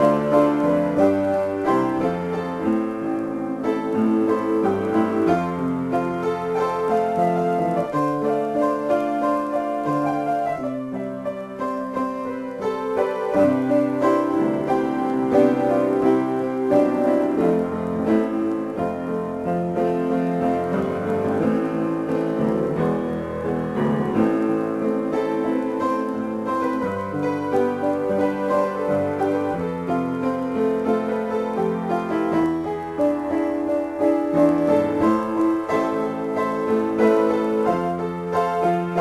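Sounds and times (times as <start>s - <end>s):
solo piano playing: 0.0s - 39.0s.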